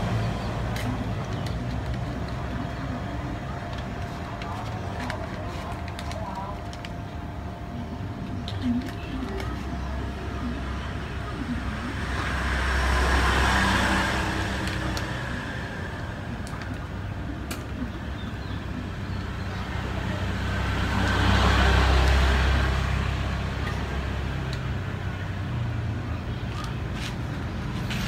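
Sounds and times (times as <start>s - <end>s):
vehicles passing by: 0.0s - 28.0s.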